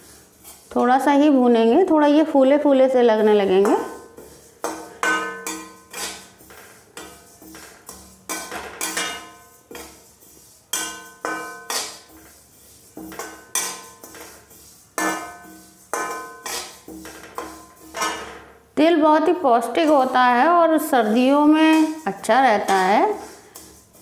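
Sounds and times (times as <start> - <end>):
metal spoon scraping steel pan: 0.0 - 1.9, 3.1 - 24.0.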